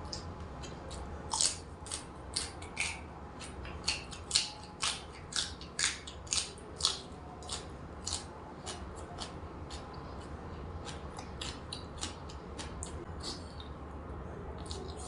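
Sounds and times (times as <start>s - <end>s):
person chewing crunchy food: 0.0s - 13.8s, 14.6s - 15.0s.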